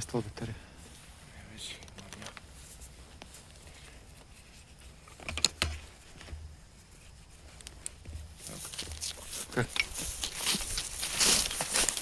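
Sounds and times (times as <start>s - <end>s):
quiet rustling: 0.0s - 12.0s.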